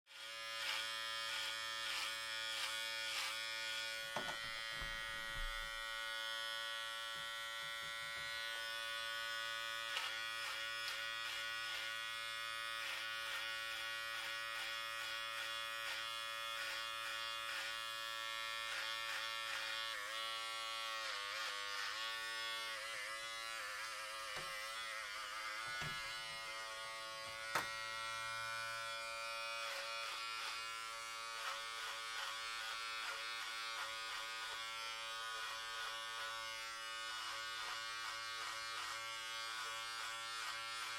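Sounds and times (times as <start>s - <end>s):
electric hair clippers buzzing: 0.1s - 40.9s.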